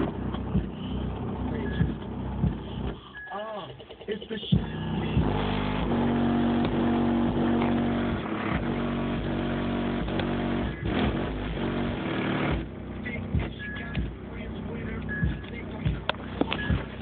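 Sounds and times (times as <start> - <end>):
car trunk rattling and buzzing: 0.0 - 3.1, 3.7 - 17.0
car subwoofer bass notes: 0.0 - 17.0.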